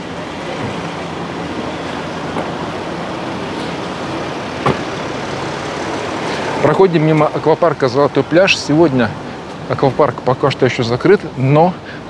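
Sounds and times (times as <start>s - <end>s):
low engine hum: 0.0s - 12.0s
passing vehicles hiss: 0.0s - 12.0s.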